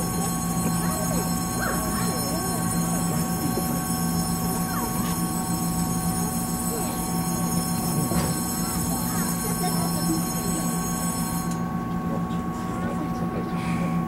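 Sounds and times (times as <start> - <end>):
train pulling out: 0.0 - 13.0
train equipment humming: 0.0 - 14.0.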